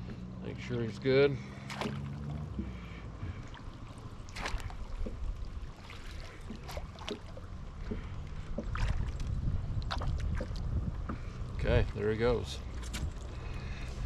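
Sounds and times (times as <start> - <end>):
water splashing and trickling: 0.0 - 14.0
wind rumble on microphone: 1.8 - 14.0.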